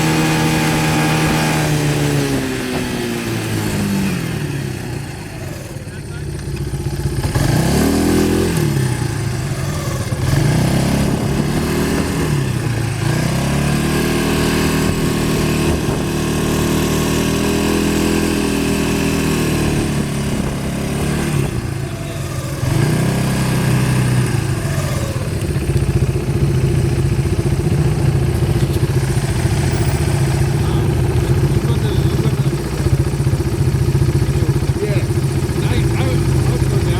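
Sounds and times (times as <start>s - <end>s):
quad bike engine revving: 0.0s - 36.9s.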